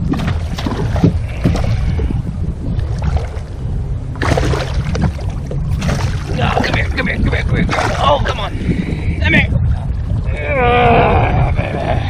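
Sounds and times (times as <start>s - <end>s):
water slapping boat hull: 0.0s - 11.7s
wind buffeting microphone: 0.0s - 12.0s.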